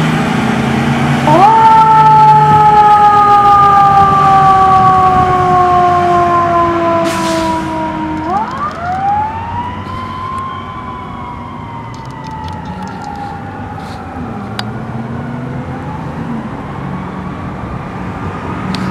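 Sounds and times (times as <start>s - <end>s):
fire engine siren wailing: 0.0s - 18.9s.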